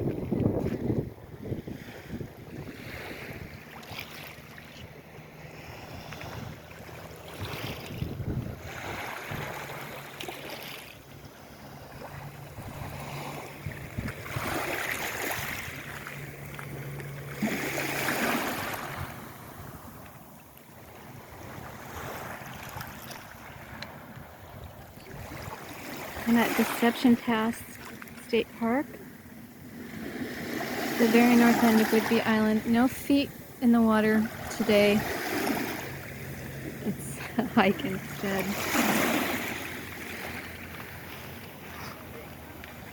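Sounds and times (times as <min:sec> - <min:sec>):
waves washing on shore: 0:00.0 - 0:42.9
boat engine drone: 0:02.2 - 0:22.5, 0:23.3 - 0:42.9.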